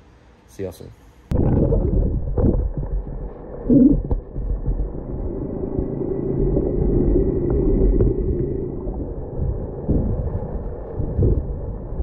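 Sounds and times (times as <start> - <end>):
muffled underwater rumble: 1.3 - 12.0
water burble: 1.3 - 12.0.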